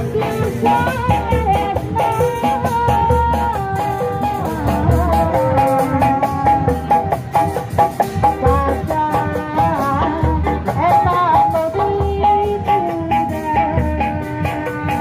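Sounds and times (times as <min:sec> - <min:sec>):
low drums beating: 0:00.0 - 0:15.0.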